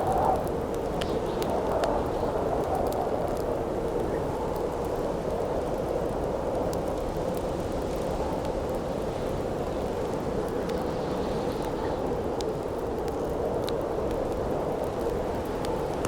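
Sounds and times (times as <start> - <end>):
campfire crackling: 0.0 - 16.0
howling wind: 0.0 - 16.0.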